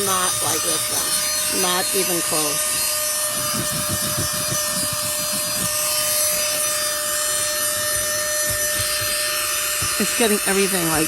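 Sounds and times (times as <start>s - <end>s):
handheld vacuum whining: 0.0s - 11.0s
vacuum nozzle scraping carpet: 0.0s - 11.0s.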